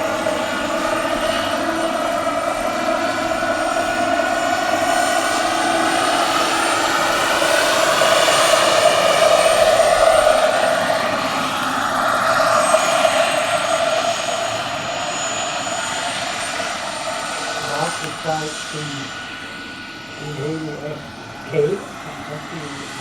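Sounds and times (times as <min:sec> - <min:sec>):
model helicopter whirring: 0:00.0 - 0:23.0.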